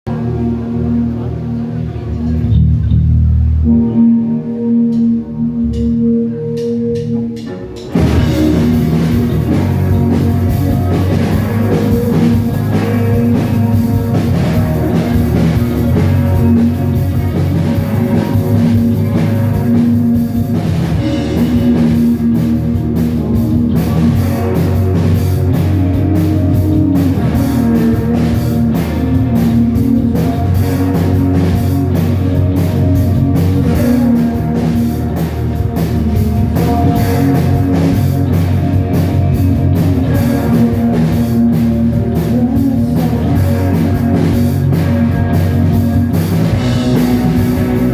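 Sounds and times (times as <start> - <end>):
live rock band playing: 0.1 - 47.9.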